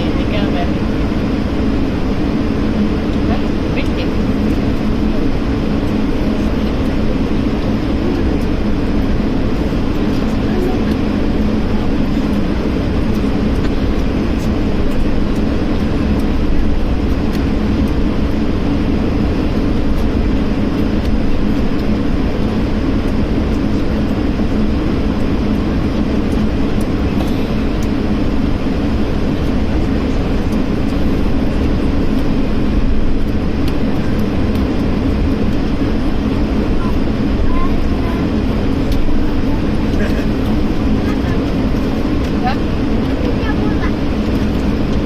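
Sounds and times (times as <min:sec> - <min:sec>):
jet cabin roar: 0:00.0 - 0:45.0.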